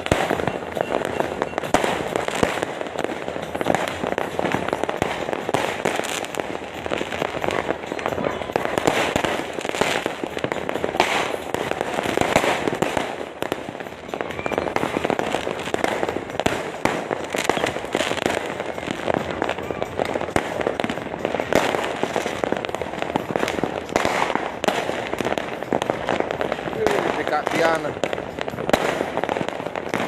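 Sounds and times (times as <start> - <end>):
fireworks cracking and banging: 0.0 - 30.0.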